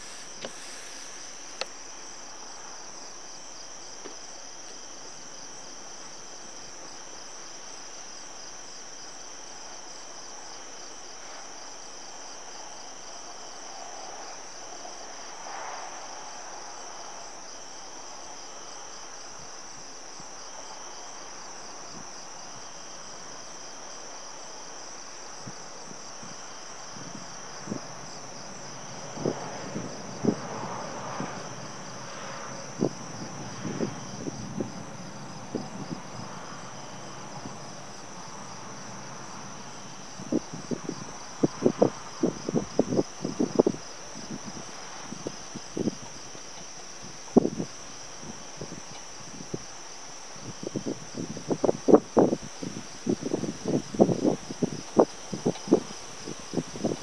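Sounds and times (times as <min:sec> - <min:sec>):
crickets trilling: 0:00.0 - 0:57.0
lower insect call: 0:00.0 - 0:57.0.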